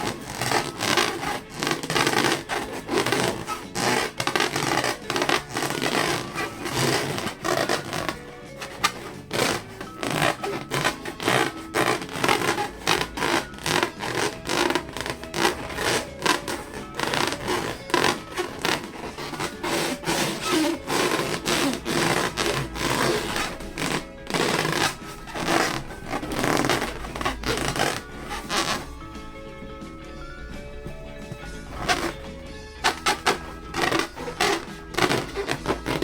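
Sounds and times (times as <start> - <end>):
balloons rubbing and squeaking: 0.0 - 30.0, 30.8 - 36.0
music: 0.0 - 36.0.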